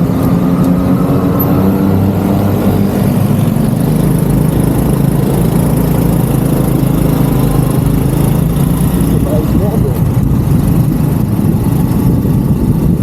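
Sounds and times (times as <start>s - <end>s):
low road rumble: 0.0s - 13.0s
vehicle engine running: 0.0s - 13.0s.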